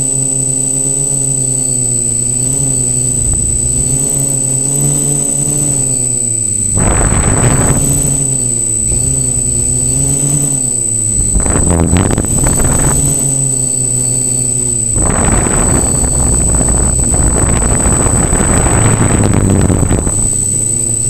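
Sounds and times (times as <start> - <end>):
drone propellers whining: 0.0 - 21.0
wind noise on microphone: 2.4 - 21.0.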